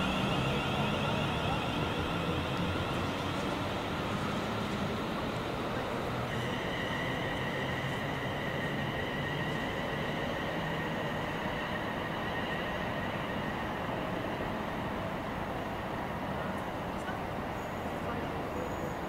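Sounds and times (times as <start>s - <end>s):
train rumbling through station: 0.0s - 19.0s.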